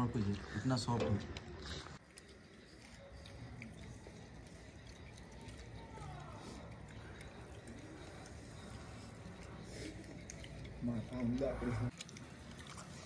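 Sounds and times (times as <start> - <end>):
people eating by hand: 0.0 - 13.0.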